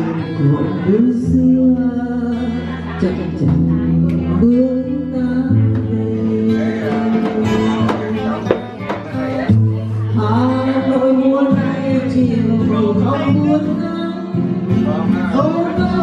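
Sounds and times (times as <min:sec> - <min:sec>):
acoustic guitar: 0:00.0 - 0:16.0
woman singing into a microphone: 0:00.0 - 0:16.0.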